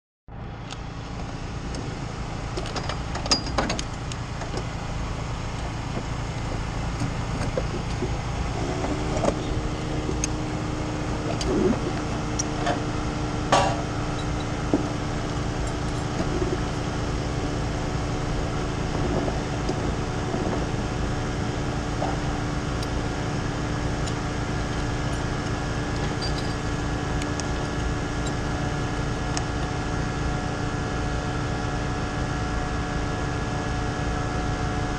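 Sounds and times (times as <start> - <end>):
engines idling: 0.3 - 34.9
humming engine note: 0.3 - 34.9.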